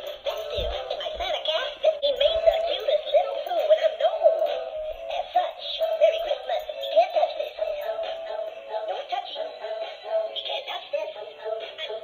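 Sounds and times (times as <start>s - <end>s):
tinny synthetic singing with music: 0.0s - 12.0s.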